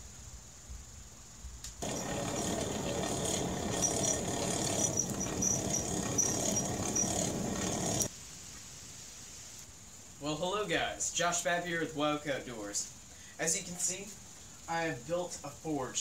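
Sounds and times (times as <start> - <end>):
fire crackling and hissing: 0.0 - 16.0.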